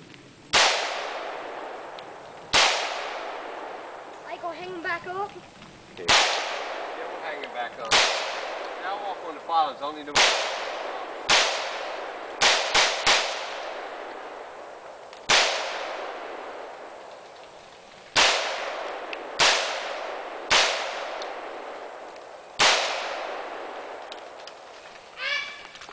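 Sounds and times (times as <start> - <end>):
rifle shots echoing: 0.5 - 4.1, 6.0 - 17.4, 18.1 - 24.6.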